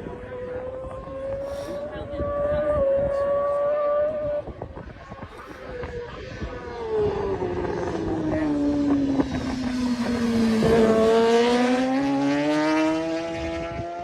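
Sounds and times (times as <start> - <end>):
racing motorcycle engine revving: 0.0 - 4.8, 5.7 - 14.0.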